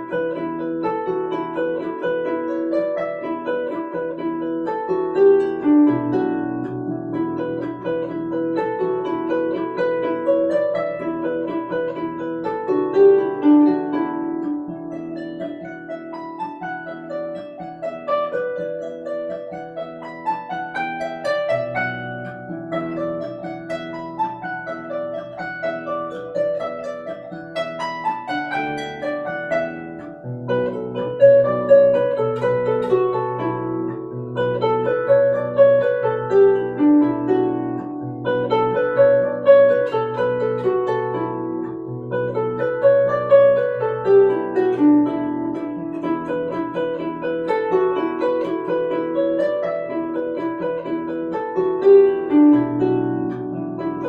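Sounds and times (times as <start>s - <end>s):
harp playing melody: 0.0s - 54.0s.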